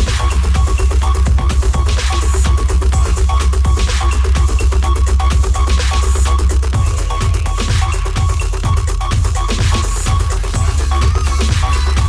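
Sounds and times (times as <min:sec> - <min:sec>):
bass-heavy electronic dance music: 0:00.0 - 0:12.0.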